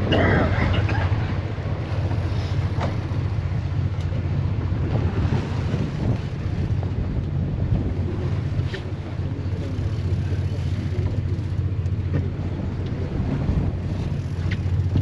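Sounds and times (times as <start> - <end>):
boat engine humming: 0.0 - 15.0
water noise: 0.0 - 15.0
wind buffeting microphone: 0.0 - 15.0.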